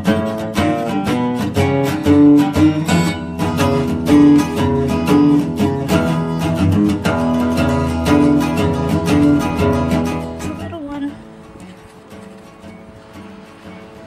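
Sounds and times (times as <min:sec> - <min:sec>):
acoustic blues guitar: 0:00.0 - 0:14.0.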